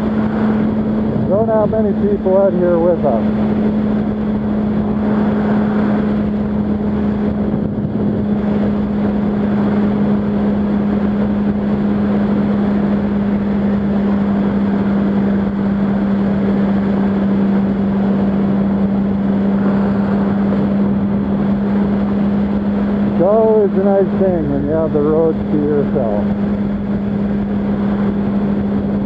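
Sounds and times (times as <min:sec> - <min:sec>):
motorcycle engine cruising: 0:00.0 - 0:29.0
wind and road noise: 0:00.0 - 0:29.0.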